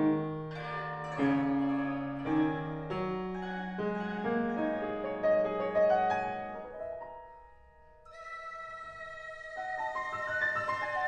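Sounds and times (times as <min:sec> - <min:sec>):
solo grand piano: 0:00.0 - 0:11.0.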